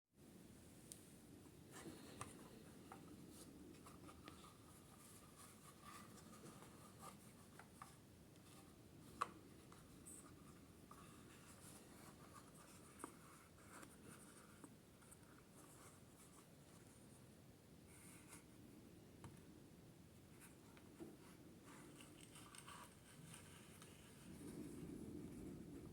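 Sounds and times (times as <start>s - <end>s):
faint scratching and rubbing: 1.6s - 18.6s, 20.3s - 25.9s.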